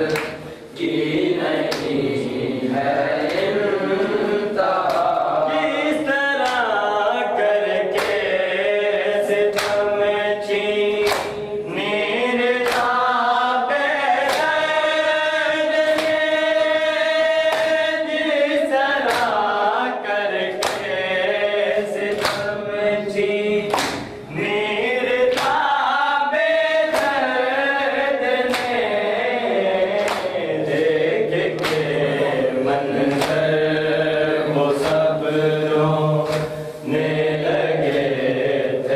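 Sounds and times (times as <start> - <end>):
men chanting together: 0.0 - 38.9.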